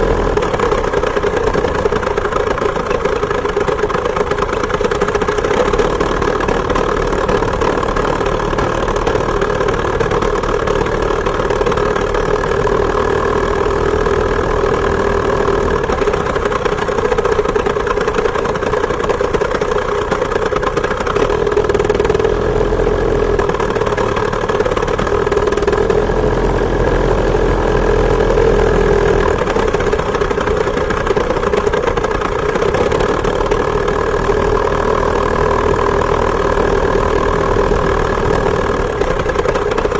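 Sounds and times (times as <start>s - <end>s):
moped two-stroke engine running: 0.0s - 39.9s.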